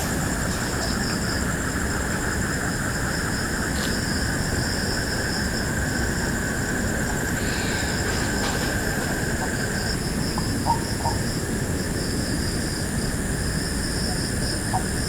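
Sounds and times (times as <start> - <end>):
frogs calling: 0.0 - 15.0
insects trilling: 0.0 - 15.0.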